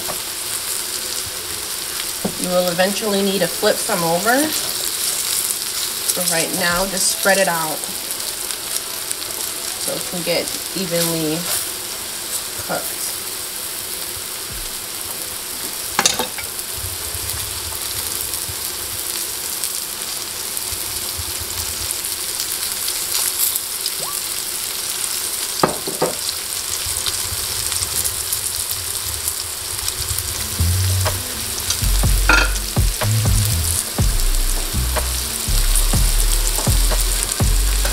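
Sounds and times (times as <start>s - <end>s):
mushrooms sizzling in oil: 0.0s - 37.9s.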